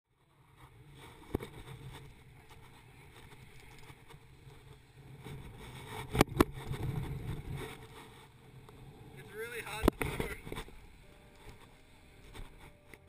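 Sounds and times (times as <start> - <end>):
wind and surf rumble: 0.3 - 12.8.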